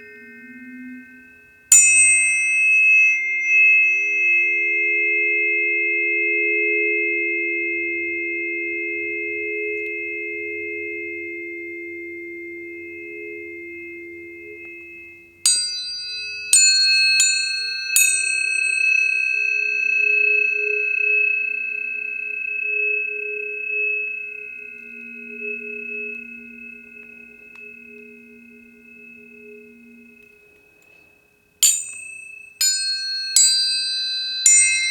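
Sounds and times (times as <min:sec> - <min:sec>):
tuning fork strike ping: 0:00.0 - 0:34.9
tuning forks ringing: 0:00.0 - 0:34.9.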